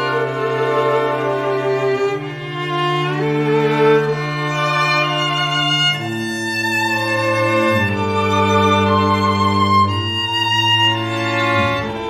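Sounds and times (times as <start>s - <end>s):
bowed strings holding long notes: 0.0s - 12.0s.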